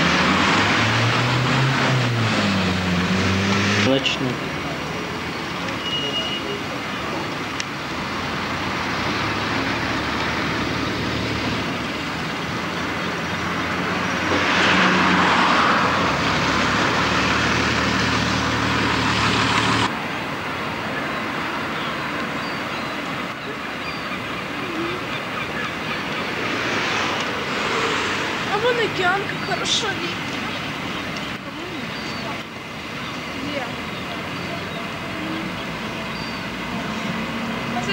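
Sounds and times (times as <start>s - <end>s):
road traffic hum: 0.0s - 37.9s.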